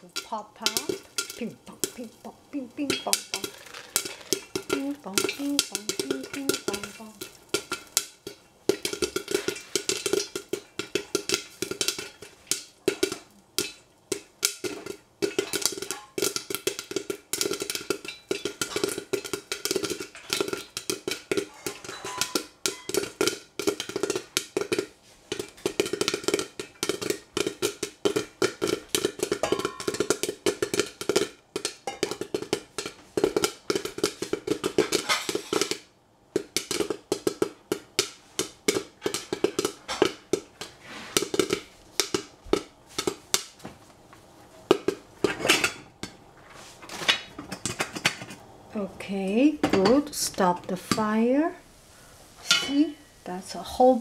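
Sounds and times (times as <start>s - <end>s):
popcorn popping in a saucepan: 0.0s - 54.0s.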